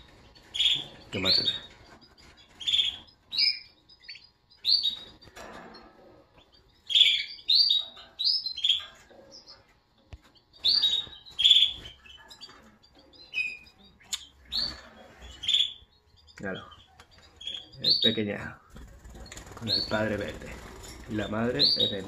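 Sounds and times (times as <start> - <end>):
canaries chirping: 0.0 - 22.0.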